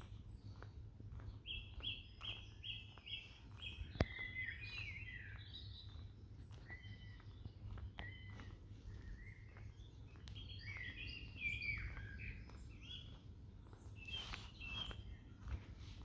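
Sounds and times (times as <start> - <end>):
songbirds singing and chirping: 0.0 - 16.0.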